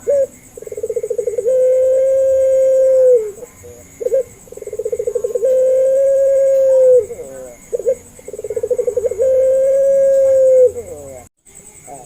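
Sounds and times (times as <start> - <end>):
dove cooing: 0.0 - 11.3.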